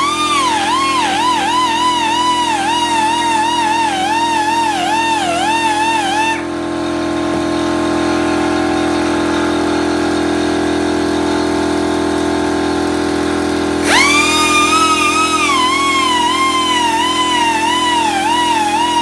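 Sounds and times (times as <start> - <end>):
rotary carving tool running: 0.0 - 19.0.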